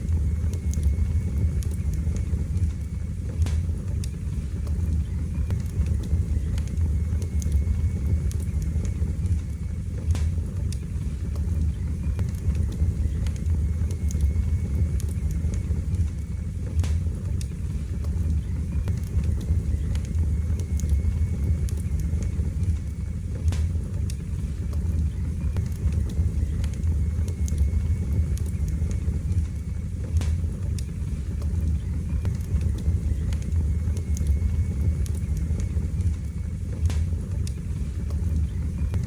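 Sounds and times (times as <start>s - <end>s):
fire crackling and popping: 0.0s - 39.0s
fire flames rumbling: 0.0s - 39.0s.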